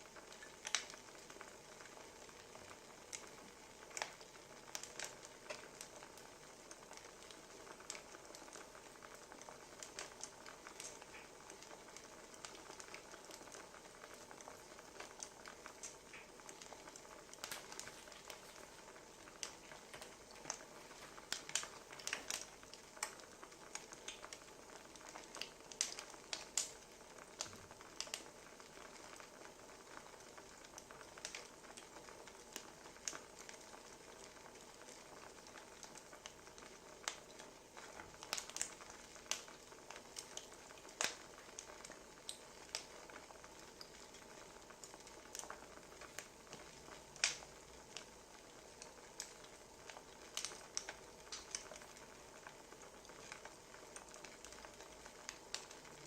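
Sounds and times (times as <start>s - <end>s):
soft steady hiss: 0.0s - 56.0s
wood fire crackling: 0.0s - 56.0s.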